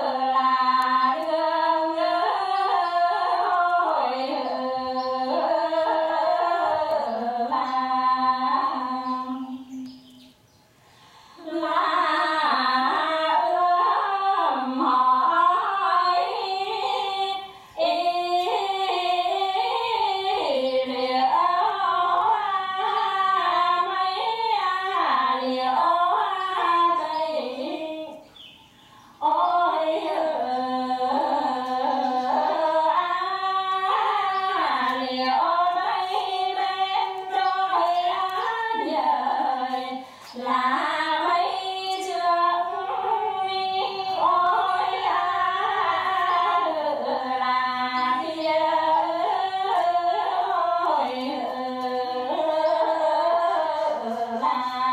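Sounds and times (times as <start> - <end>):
two women singing unaccompanied: 0.0 - 10.5, 11.2 - 54.9.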